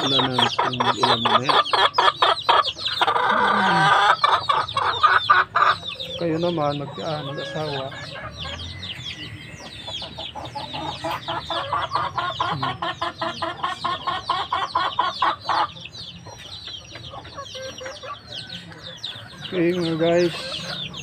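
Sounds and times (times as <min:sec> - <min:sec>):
chickens clucking: 0:00.0 - 0:21.0
chicks peeping: 0:00.0 - 0:21.0.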